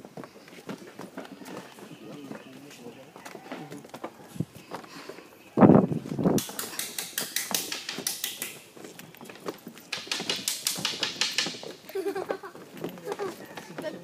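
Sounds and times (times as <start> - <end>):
footsteps on wooden boardwalk: 0.0 - 14.0.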